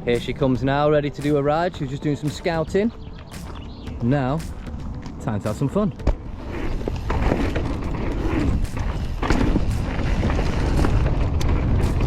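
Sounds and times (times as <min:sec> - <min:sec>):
bike rattling over rough ground: 0:00.0 - 0:12.0
wind buffeting microphone: 0:01.8 - 0:12.0.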